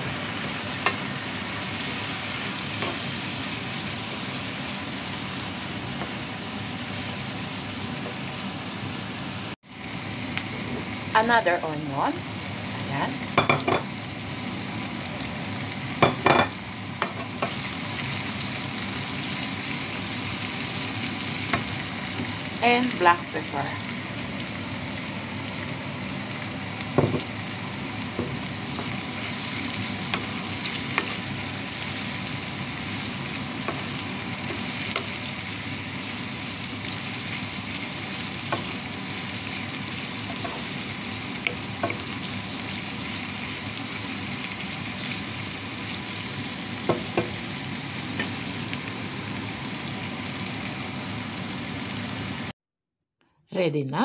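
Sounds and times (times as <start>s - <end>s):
food sizzling in a frying pan: 0.0s - 52.5s.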